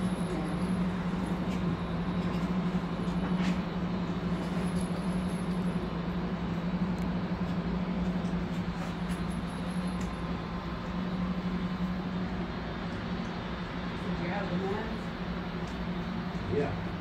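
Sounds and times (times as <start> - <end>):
ventilation system humming: 0.0 - 17.0.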